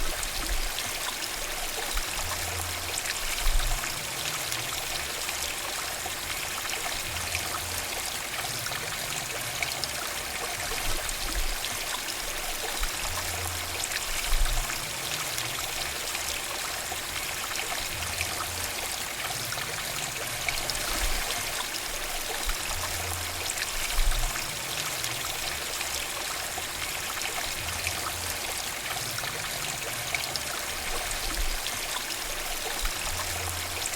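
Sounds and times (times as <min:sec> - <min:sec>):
stream flowing over rocks: 0:00.0 - 0:33.9.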